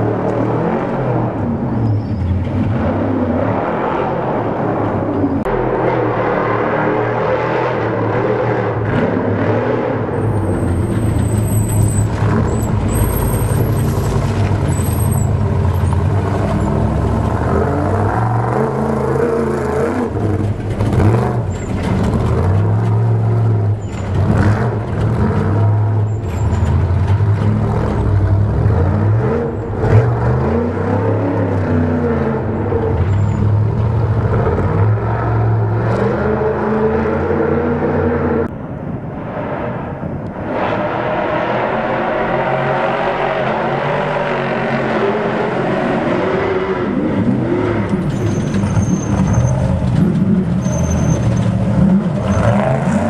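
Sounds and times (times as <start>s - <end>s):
race truck engines revving: 0.0s - 53.0s.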